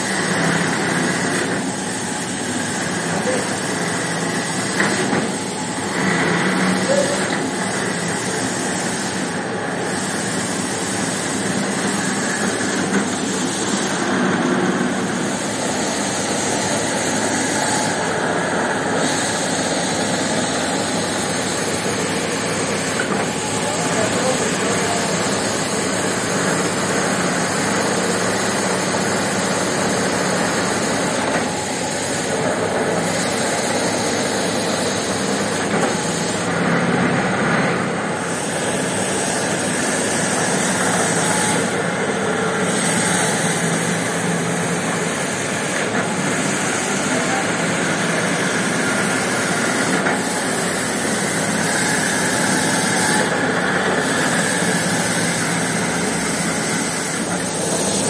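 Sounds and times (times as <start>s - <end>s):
carpet scrubbing machine running: 0.0s - 58.0s.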